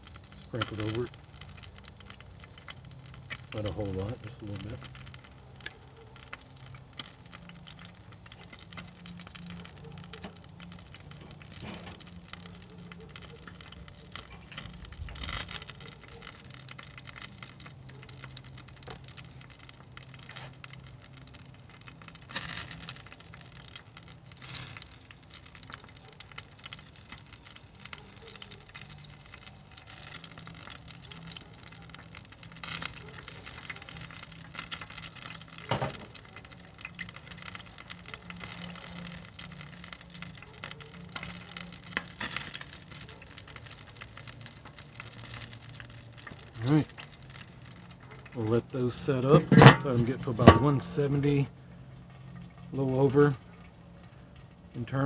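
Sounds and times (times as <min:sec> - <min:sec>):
charcoal sizzling and crackling: 0:00.0 - 0:55.0.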